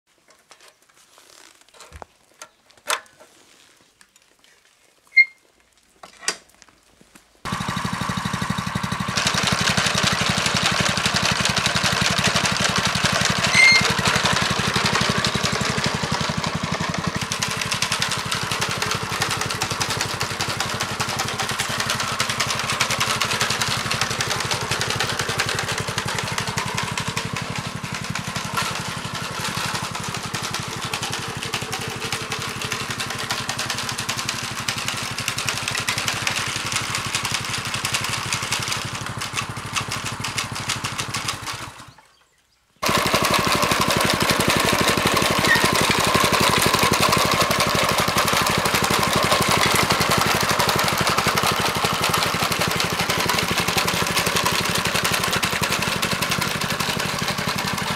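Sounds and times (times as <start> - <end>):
small gasoline engine running: 7.4 - 42.0, 42.8 - 57.9.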